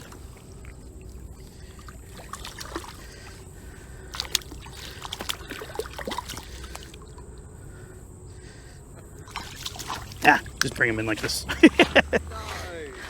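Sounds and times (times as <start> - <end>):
fish thrashing water splashes: 0.0 - 7.5, 9.2 - 13.0.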